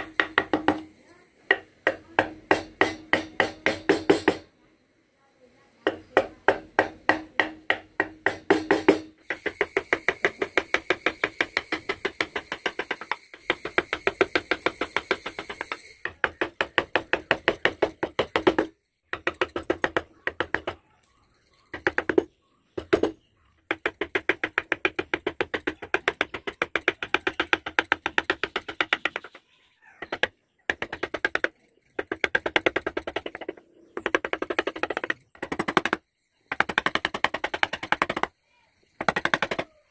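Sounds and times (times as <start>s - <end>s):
mallet tapping on chisel: 0.0s - 4.5s, 5.8s - 20.8s, 21.7s - 29.4s, 30.0s - 38.3s, 39.0s - 39.7s.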